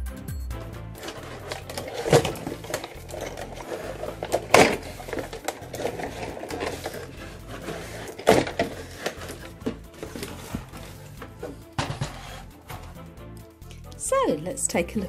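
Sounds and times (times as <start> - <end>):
plastic scraping against cardboard: 1.0 - 13.1.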